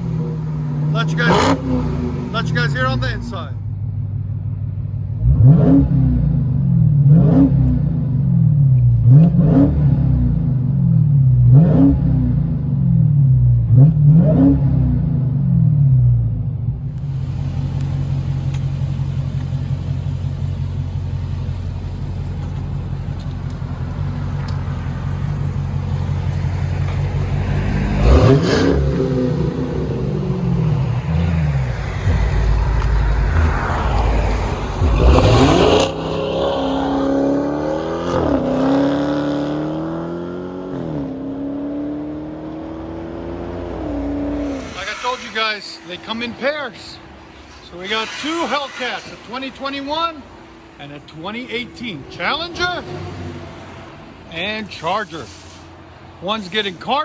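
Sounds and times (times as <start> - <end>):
car engine revving and idling: 0.0 - 47.2.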